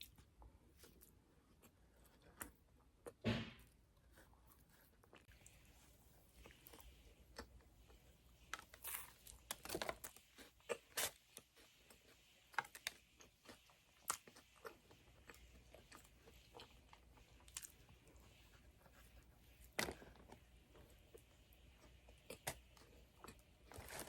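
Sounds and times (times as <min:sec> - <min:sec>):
person chewing doughnuts: 0:00.0 - 0:24.0.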